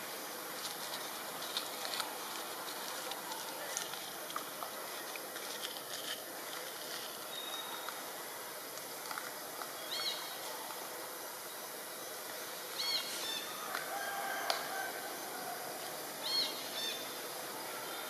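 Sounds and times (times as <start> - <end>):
hissing forest background: 0.0 - 18.0.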